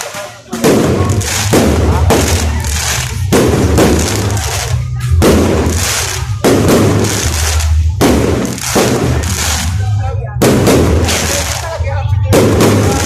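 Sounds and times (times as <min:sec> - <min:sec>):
fireworks bangs and crackle: 0:00.0 - 0:13.0
low rumble: 0:00.6 - 0:13.0.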